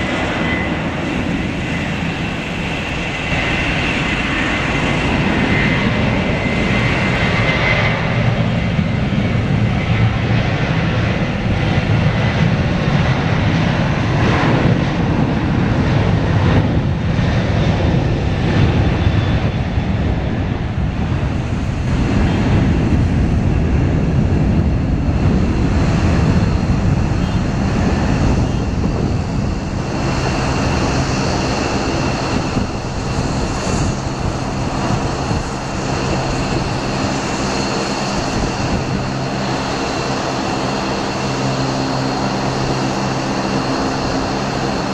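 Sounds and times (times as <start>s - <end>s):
jet engines roaring at takeoff: 0.0s - 44.9s.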